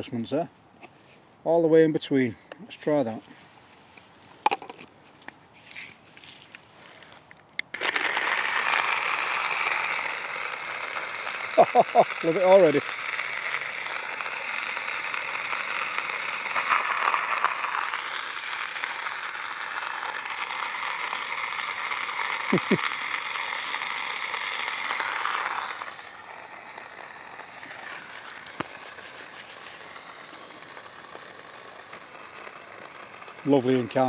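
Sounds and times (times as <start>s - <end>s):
coffee grinder whirring: 6.2s - 34.0s.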